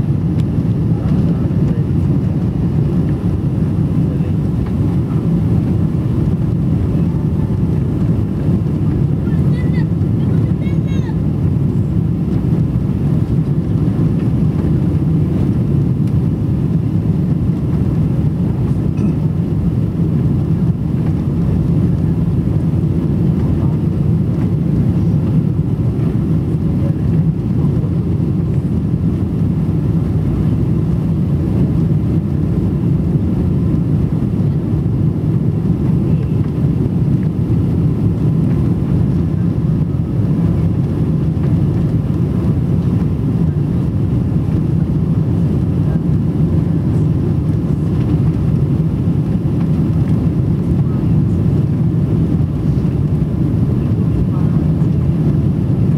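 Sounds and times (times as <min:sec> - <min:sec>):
aircraft cabin engine roar: 0:00.0 - 0:55.9.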